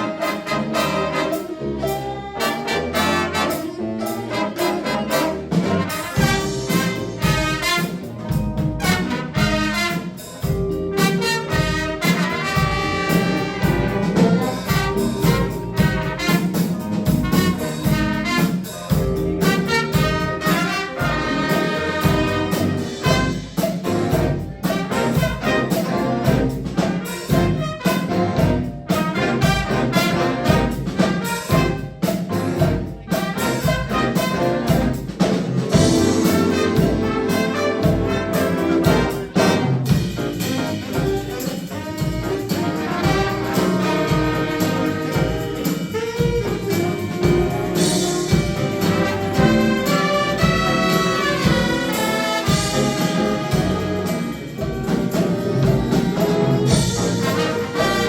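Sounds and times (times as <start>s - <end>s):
held brass chords: 0.0s - 58.0s
jazz band playing: 0.0s - 58.0s
sharp drum hits: 5.6s - 58.0s.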